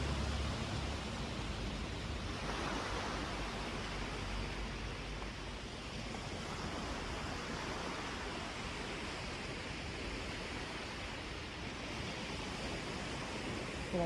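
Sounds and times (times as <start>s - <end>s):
surf washing on beach: 0.0s - 14.0s.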